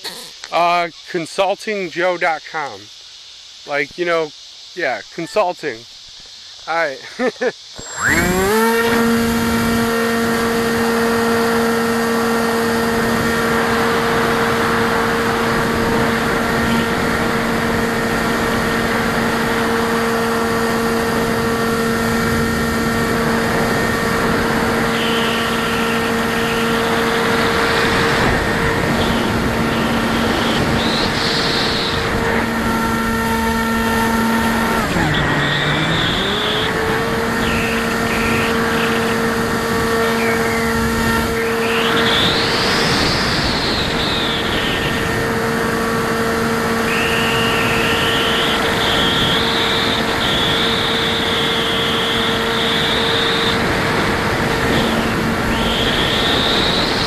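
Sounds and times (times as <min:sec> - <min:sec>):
electric motor high whine: 0:00.0 - 0:00.9, 0:02.6 - 0:57.0.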